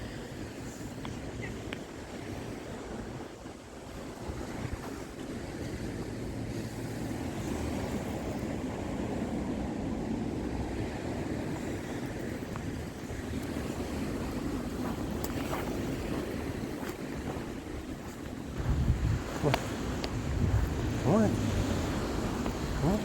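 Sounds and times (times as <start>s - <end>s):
waves on a beach: 0.0s - 23.0s
wind buffeting microphone: 0.0s - 23.0s.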